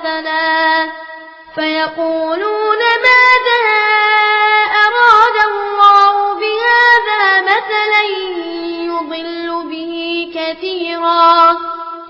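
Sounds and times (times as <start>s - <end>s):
boy reciting melodically: 0.0s - 12.0s.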